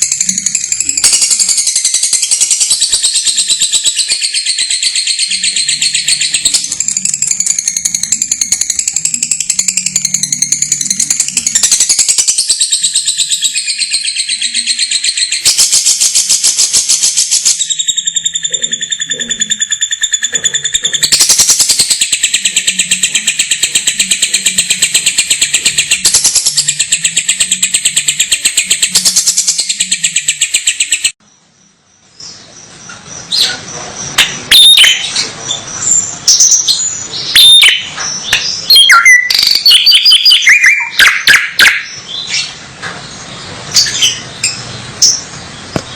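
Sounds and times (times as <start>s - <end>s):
bird chirps and whistled notes: 0.0s - 31.2s, 32.2s - 42.6s
bird rapid high trill: 0.0s - 31.2s, 33.3s - 42.6s.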